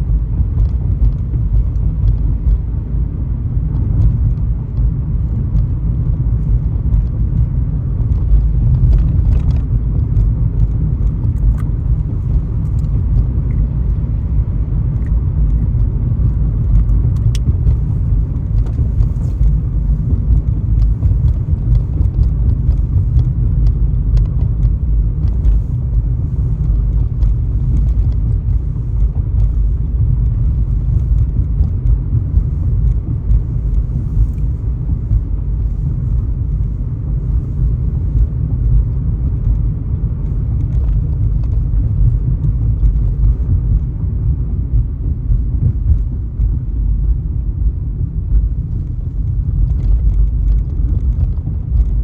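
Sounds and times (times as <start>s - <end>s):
car road and engine rumble: 0.0s - 52.0s.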